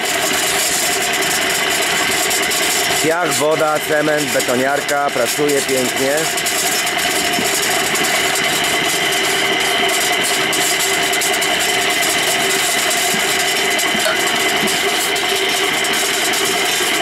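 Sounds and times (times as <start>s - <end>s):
concrete mixer running: 0.0s - 17.0s.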